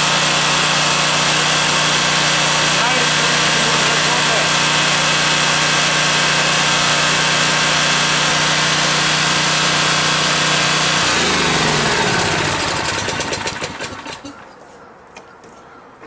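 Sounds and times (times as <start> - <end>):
generator engine running and shutting off: 0.0 - 14.5.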